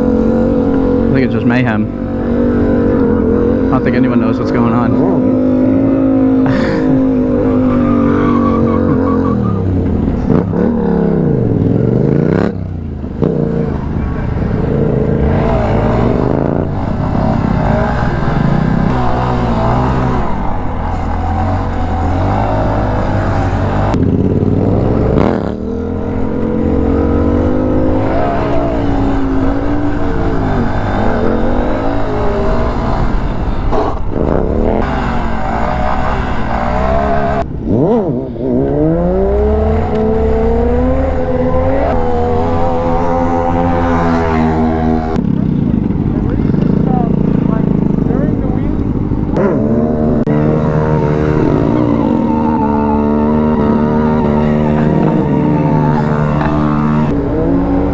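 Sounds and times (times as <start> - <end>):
car engines revving: 0.0 - 57.9.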